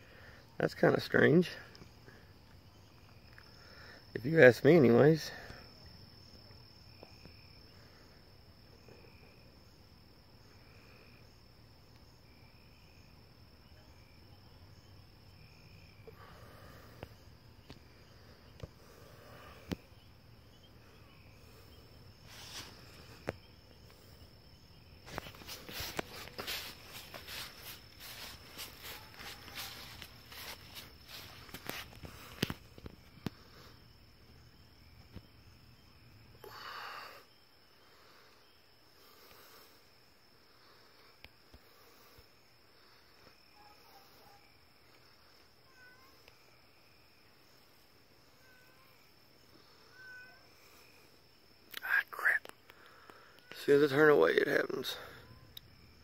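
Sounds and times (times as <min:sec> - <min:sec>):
high-pitched insect trill: 0:00.0 - 0:56.0
lower insect chirp: 0:00.0 - 0:56.0.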